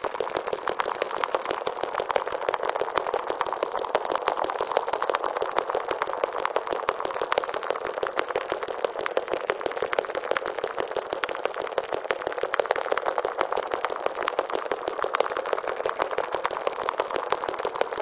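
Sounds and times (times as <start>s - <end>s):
dense crackling pops: 0.0s - 18.0s.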